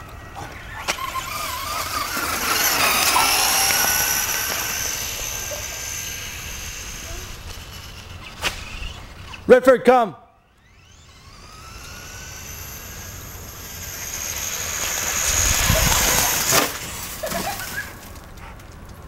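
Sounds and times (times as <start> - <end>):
toy truck motor whining: 0.0 - 9.5, 10.4 - 18.0.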